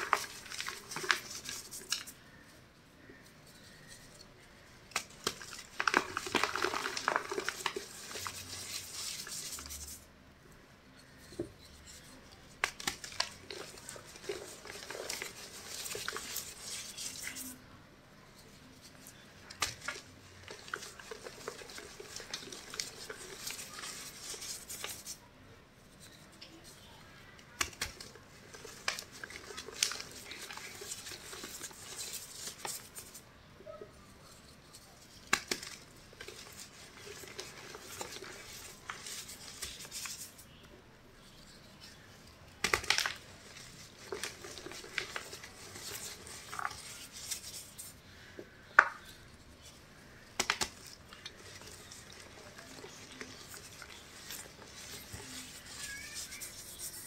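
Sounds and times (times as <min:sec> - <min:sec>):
hands rubbing powder: 0:00.0 - 0:10.1, 0:11.0 - 0:17.6, 0:18.3 - 0:25.3, 0:25.9 - 0:33.3, 0:34.0 - 0:40.6, 0:41.2 - 0:57.0.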